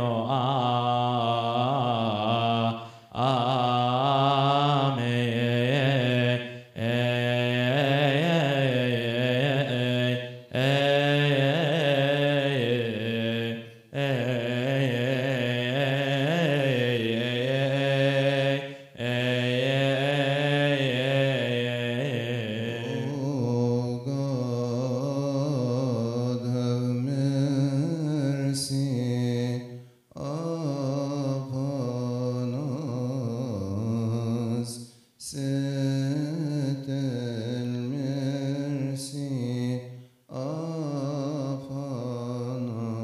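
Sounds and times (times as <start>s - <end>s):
men singing liturgical chant: 0.0s - 43.0s.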